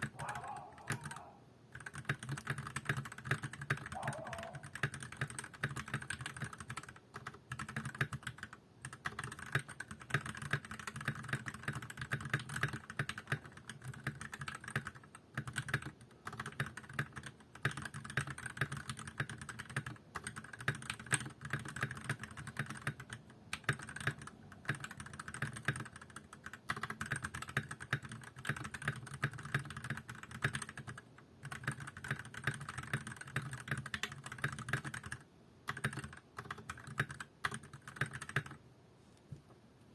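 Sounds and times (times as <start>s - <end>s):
fast typing on mechanical keyboard: 0.0s - 38.6s.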